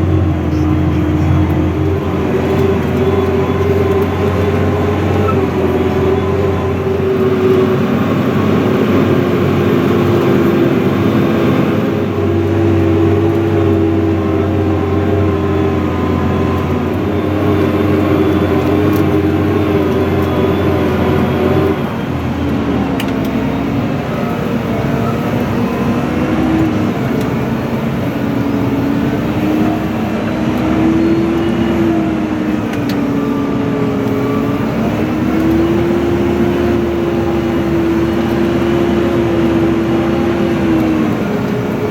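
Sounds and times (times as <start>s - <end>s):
tractor diesel engine droning: 0.0s - 41.9s.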